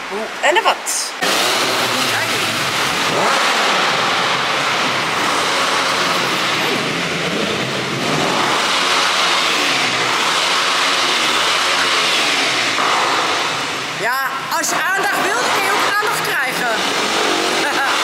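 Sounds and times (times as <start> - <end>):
car engines echoing in garage: 0.0 - 18.0.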